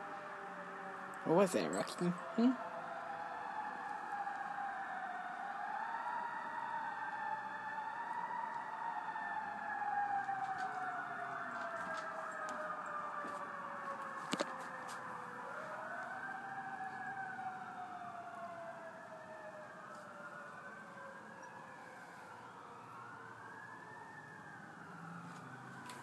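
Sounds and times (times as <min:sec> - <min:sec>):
fire truck sirens wailing: 0:00.0 - 0:26.0.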